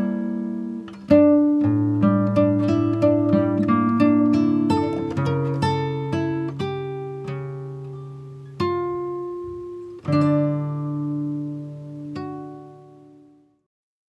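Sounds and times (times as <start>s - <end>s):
acoustic guitar picking: 0.0s - 13.4s.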